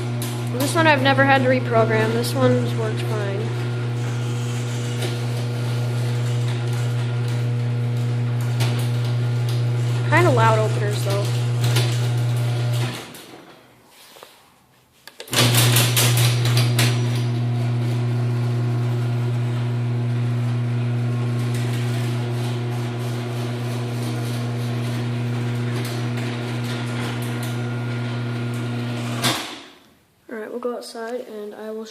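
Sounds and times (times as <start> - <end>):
garage door opener motor humming: 0.0 - 13.6, 15.3 - 29.8.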